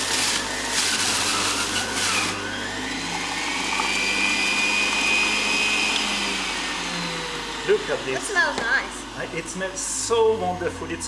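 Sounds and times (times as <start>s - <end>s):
juicer motor whining: 0.0s - 11.0s.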